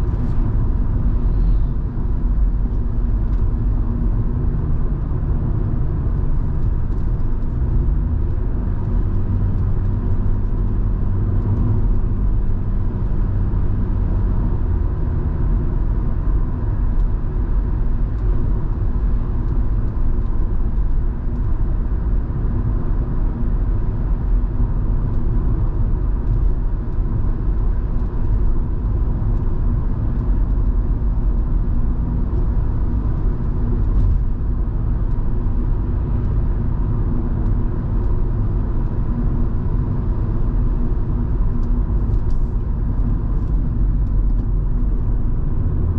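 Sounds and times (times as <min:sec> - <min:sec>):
road rumble: 0:00.0 - 0:45.9.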